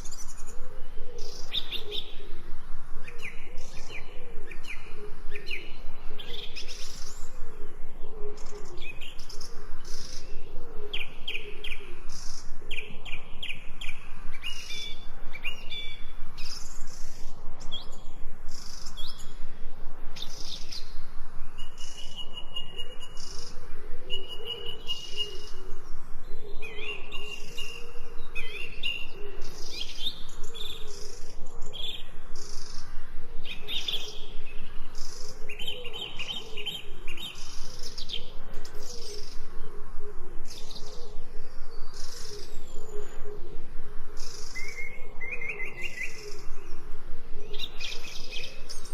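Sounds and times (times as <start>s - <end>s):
songbirds chirping: 0.0s - 48.9s.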